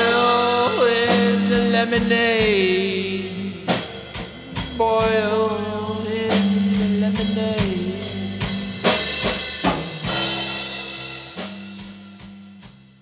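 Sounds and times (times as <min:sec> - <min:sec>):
band song with drum kit: 0:00.0 - 0:13.0.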